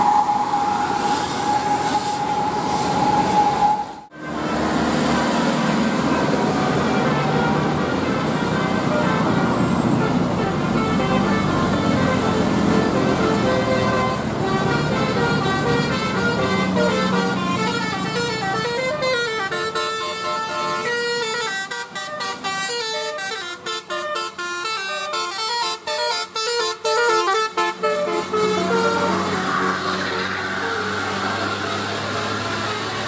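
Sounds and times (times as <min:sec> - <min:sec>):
bus air horns playing melody: 0:00.0 - 0:33.0.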